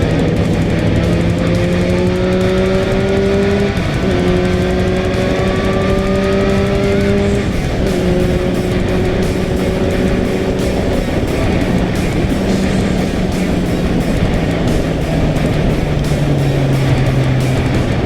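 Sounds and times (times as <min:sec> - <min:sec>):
motorcycle engine accelerating: 0:00.0 - 0:18.0
wind rush: 0:00.0 - 0:18.0.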